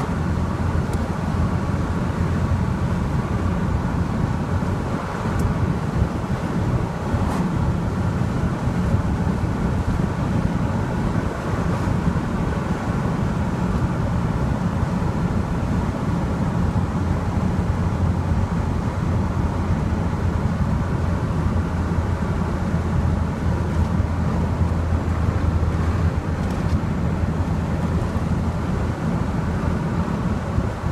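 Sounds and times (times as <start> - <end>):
car engine low drone: 0.0 - 30.9
road noise: 0.0 - 30.9.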